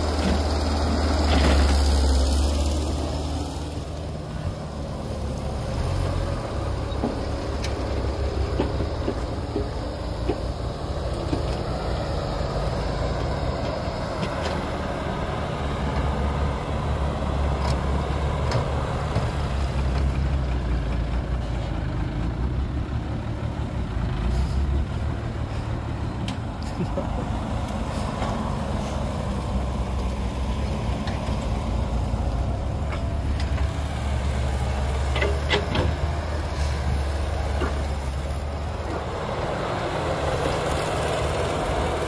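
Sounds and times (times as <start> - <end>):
dump truck diesel engine rumble: 0.0 - 42.0.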